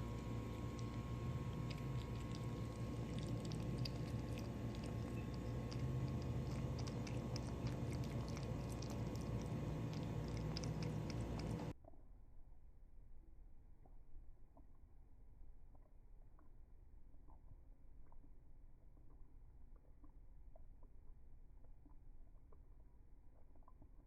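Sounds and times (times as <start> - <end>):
cat lapping water: 0.0 - 11.8, 15.6 - 24.0
steady low hum: 0.0 - 24.0.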